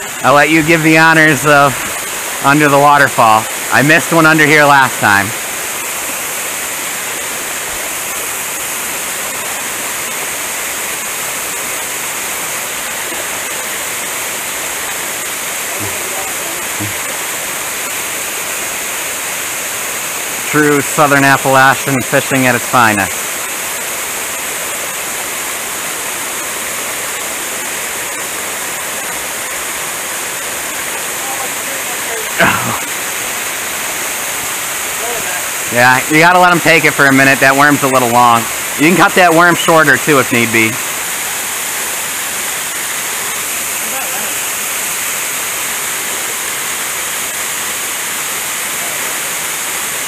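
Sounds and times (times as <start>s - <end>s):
waterfall splashing into pool: 0.0s - 50.0s.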